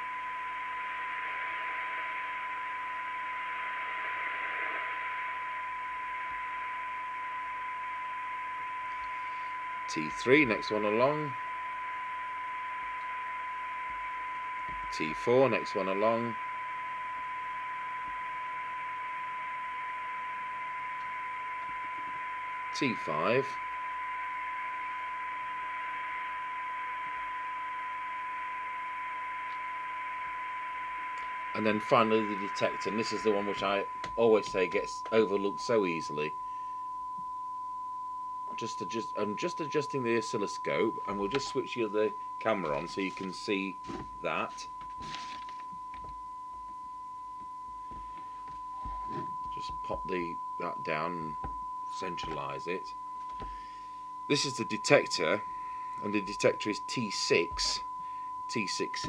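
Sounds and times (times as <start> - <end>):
radio hiss: 0.0 - 36.8, 38.5 - 46.1, 47.9 - 59.0
steady radio test tone: 0.0 - 59.0.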